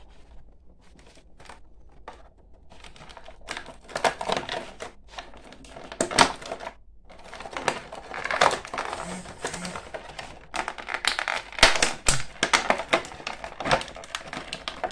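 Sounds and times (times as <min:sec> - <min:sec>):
plastic blister packaging crackling: 0:00.0 - 0:14.9.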